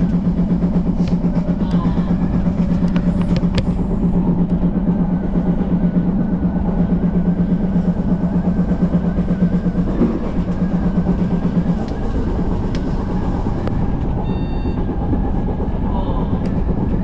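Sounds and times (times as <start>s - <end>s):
low droning hum: 0.0s - 17.0s
train wheels rumbling on rail: 0.0s - 17.0s.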